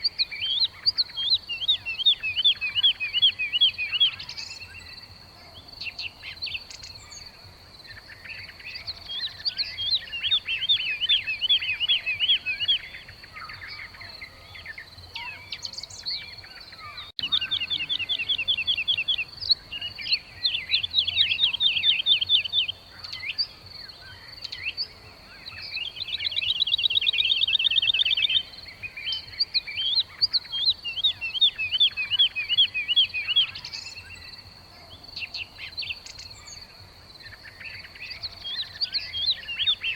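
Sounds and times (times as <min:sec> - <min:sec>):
bird trill: 0:00.0 - 0:39.9
birds chattering: 0:00.0 - 0:39.9.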